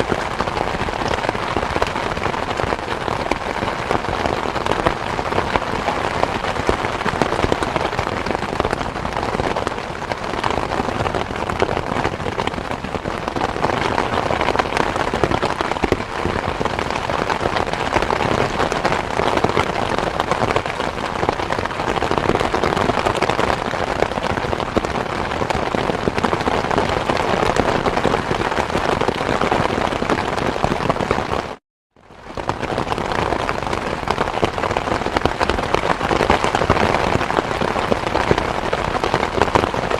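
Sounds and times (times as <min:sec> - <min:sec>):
dense rain spattering: 0:00.0 - 0:39.9.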